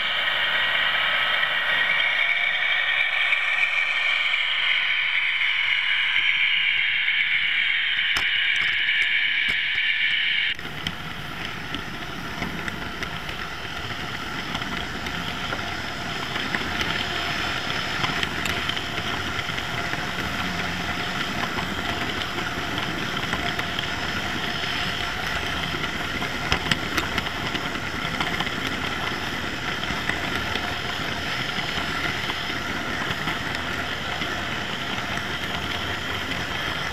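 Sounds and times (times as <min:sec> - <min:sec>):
model train wheels rumbling: 0:00.0 - 0:36.9
rail joint clicks: 0:00.0 - 0:36.9.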